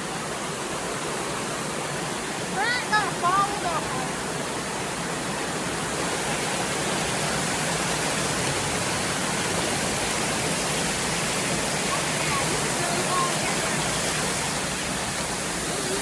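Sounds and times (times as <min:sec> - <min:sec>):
fast-flowing creek water: 0:00.0 - 0:16.0.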